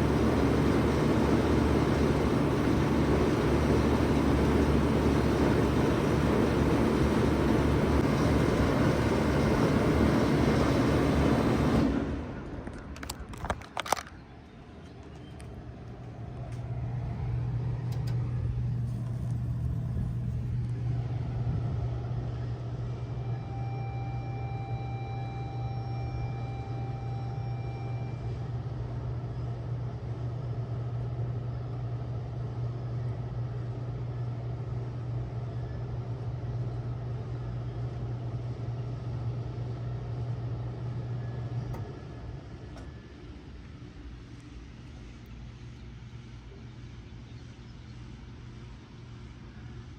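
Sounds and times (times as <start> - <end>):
heat pump humming: 0.0 - 14.1, 15.2 - 49.9.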